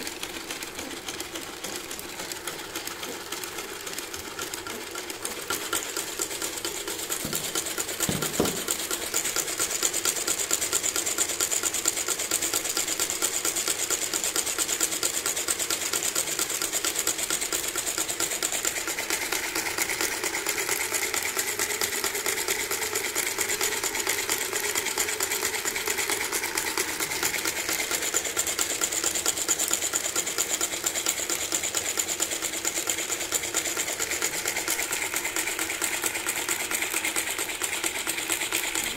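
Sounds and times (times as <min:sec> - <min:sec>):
engine model clattering: 0:00.0 - 0:13.9, 0:14.8 - 0:38.9.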